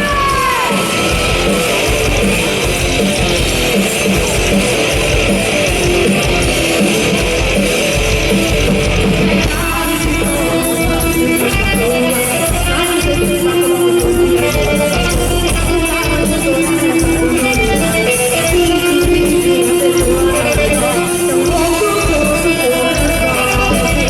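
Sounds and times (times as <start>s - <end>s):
live rock band playing: 0.0s - 24.0s
strummed electric guitar: 0.0s - 24.0s.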